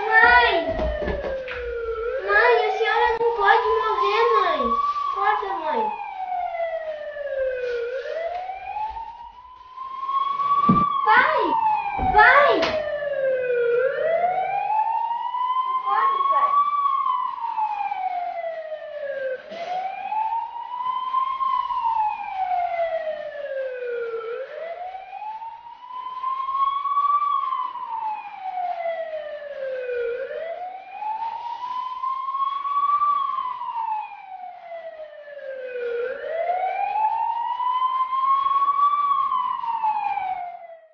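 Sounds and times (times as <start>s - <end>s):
siren wailing: 0.0s - 40.9s.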